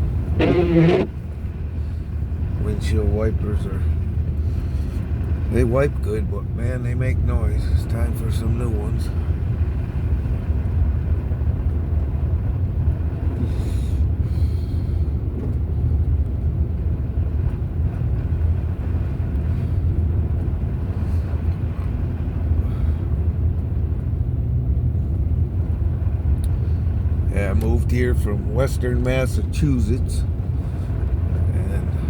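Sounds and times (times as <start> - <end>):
truck engine and tyres rumbling: 0.0 - 32.0.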